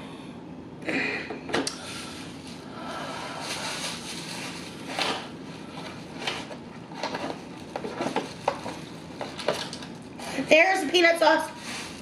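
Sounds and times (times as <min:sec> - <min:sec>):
plastic bag rustling: 0:01.8 - 0:12.0.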